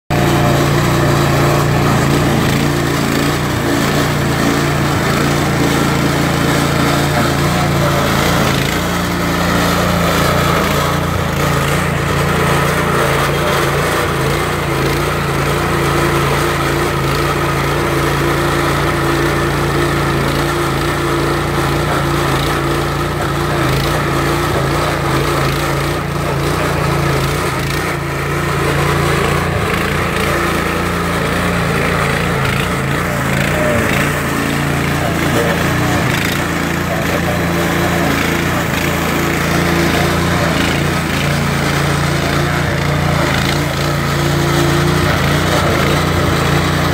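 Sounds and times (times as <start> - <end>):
stump grinder running: 0.0 - 46.9.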